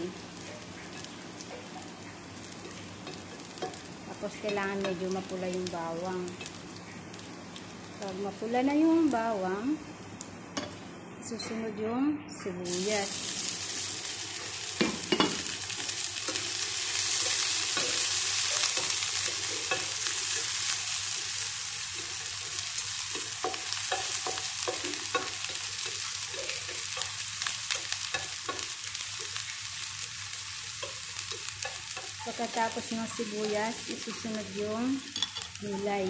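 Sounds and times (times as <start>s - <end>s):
onion and garlic sizzling in oil: 0.0s - 11.7s, 12.6s - 36.0s.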